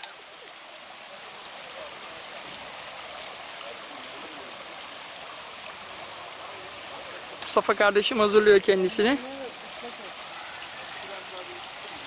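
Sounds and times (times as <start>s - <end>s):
fountain water rushing: 0.0s - 12.0s.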